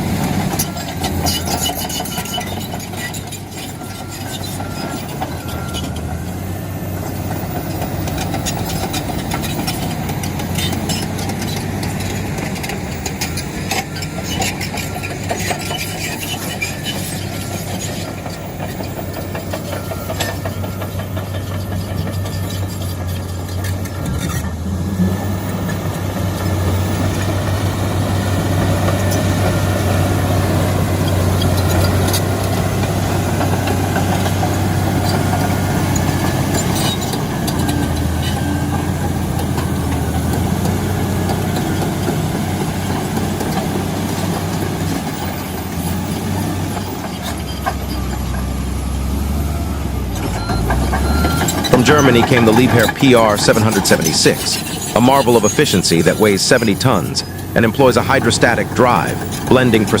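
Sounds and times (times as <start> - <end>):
bulldozer diesel engine droning: 0.0 - 60.0.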